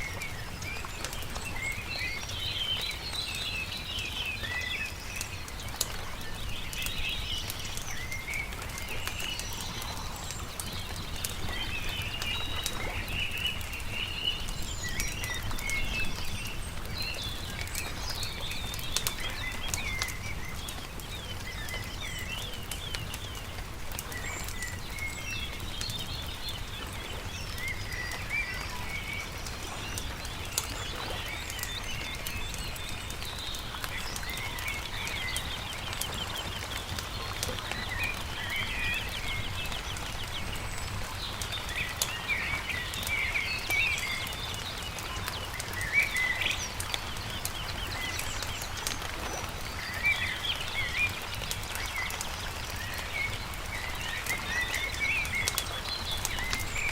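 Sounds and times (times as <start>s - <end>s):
campfire popping and crackling: 0.0s - 56.9s
small birds chirping and trilling: 0.0s - 56.9s.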